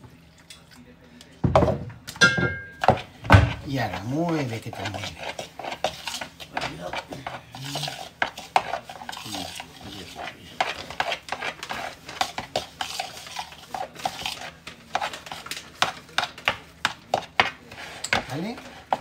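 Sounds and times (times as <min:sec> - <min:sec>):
utensil scraping plastic bowl: 0:02.8 - 0:19.0.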